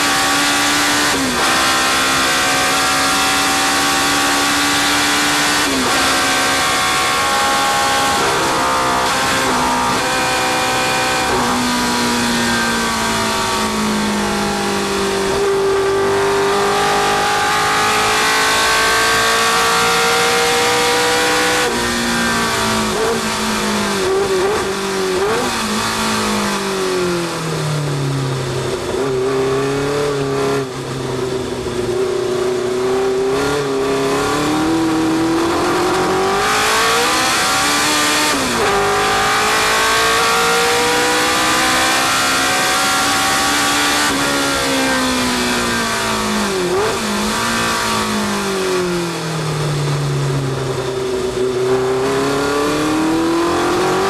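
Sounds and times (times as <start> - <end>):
racing car engine revving: 0.0 - 30.9, 31.5 - 54.0
wind and road noise: 0.0 - 54.0.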